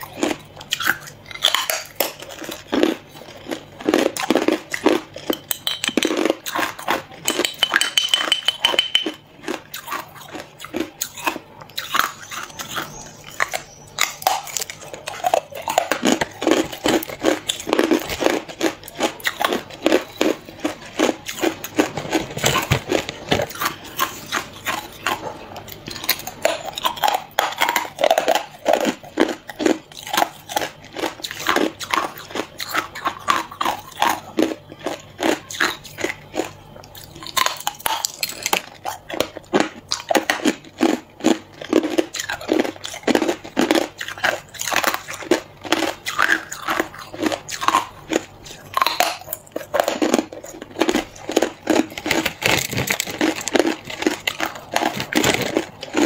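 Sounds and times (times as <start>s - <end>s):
ice crunching between teeth: 0.0s - 8.4s, 9.0s - 56.0s.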